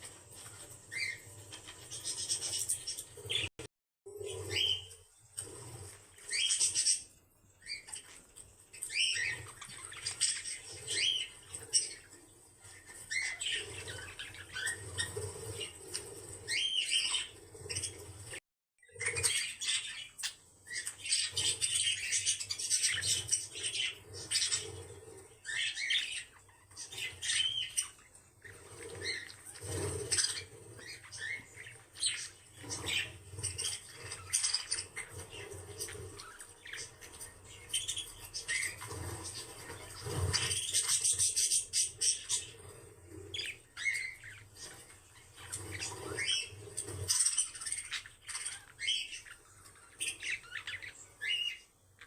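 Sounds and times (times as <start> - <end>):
pet birds chirping and squawking: 0.0 - 52.0.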